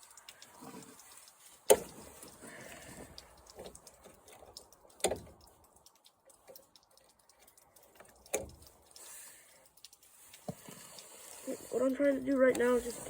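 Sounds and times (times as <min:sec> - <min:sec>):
faint clicks of tools: 0:00.0 - 0:13.0.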